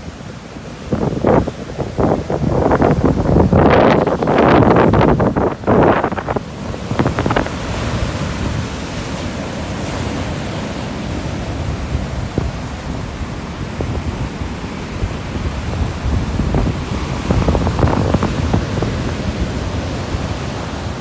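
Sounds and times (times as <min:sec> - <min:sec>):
ocean surf washing on beach: 0:00.0 - 0:21.0
wind buffeting microphone: 0:00.0 - 0:21.0.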